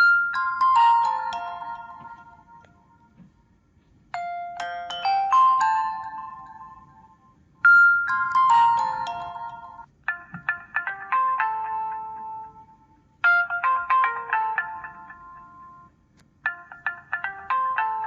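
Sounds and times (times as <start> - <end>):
phone ringtone chiming melody: 0.0 - 3.2, 4.2 - 15.9, 16.5 - 18.0.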